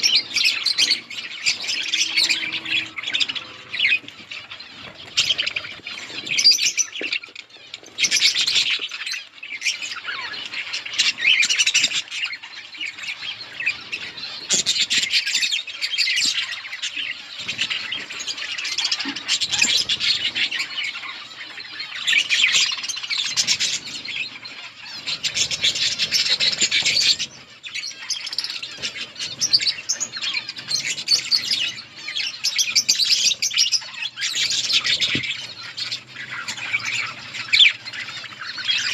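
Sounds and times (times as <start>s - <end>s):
budgies chattering and chirping: 0.0s - 38.9s.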